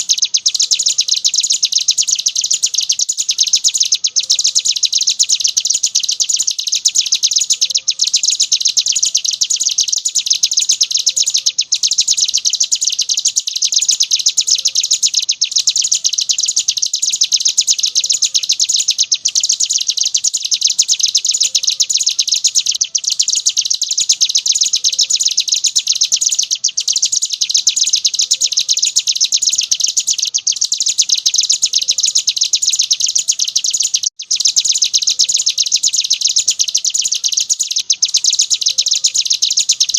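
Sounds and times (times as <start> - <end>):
bird singing a rapid high trill: 0.0 - 39.9.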